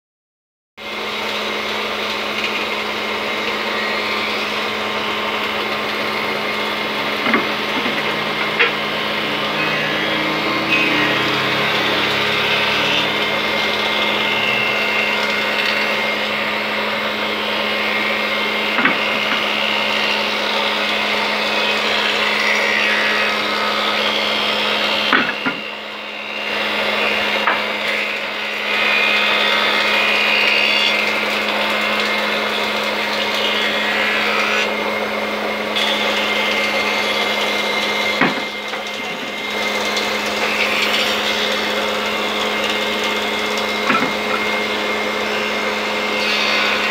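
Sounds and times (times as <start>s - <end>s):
machine motor whirring: 0.8s - 46.9s.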